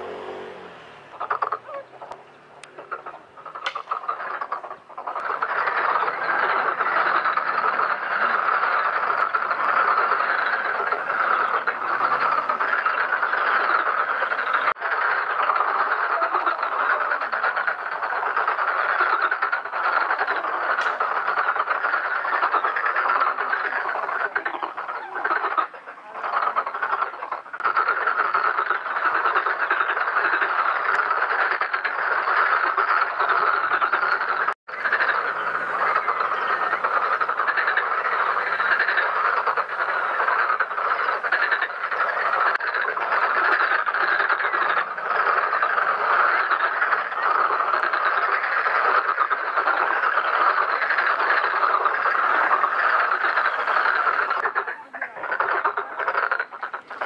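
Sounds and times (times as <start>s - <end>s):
chorus of frogs croaking: 0.0s - 57.0s.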